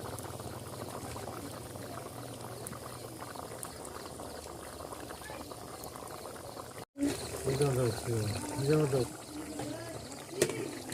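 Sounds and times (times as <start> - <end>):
curry bubbling in a pot: 0.0 - 10.9.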